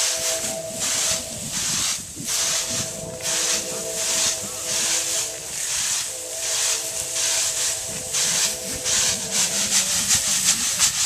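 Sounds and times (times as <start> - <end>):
rice swishing in bamboo tray: 0.0 - 11.0.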